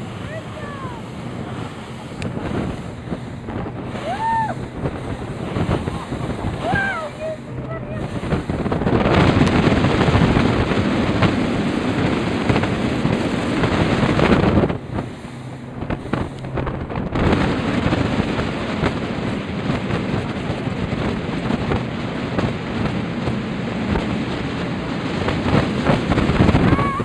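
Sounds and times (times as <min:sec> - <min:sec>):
boat engine hum: 0:00.0 - 0:27.0
water rushing past boat: 0:00.0 - 0:27.0
wind buffeting microphone: 0:00.0 - 0:27.0.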